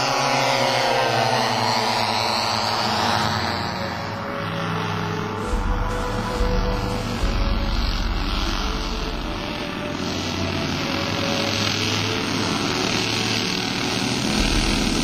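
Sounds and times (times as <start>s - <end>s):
model aircraft engine drone: 0.0s - 15.0s.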